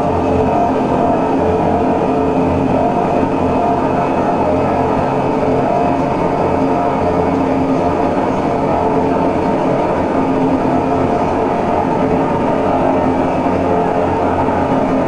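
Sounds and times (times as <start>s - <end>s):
electronic drone music: 0.0s - 15.0s.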